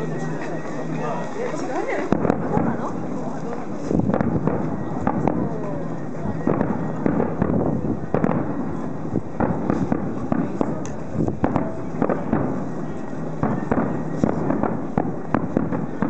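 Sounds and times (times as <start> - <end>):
fireworks shells booming: 0.0 - 16.0.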